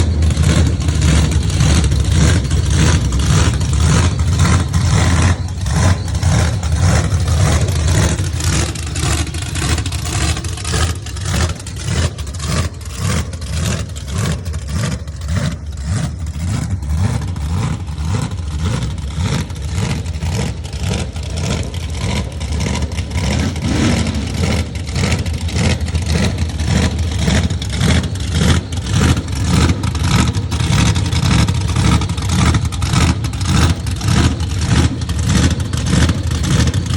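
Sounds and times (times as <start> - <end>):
truck engine revving and idling: 0.0 - 36.9.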